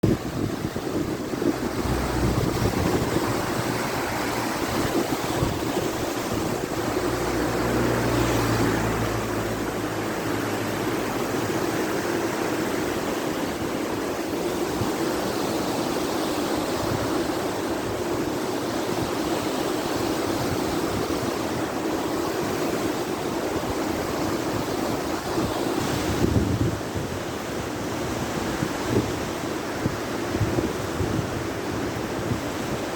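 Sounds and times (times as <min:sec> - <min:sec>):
water rushing and flowing: 0:00.0 - 0:32.9.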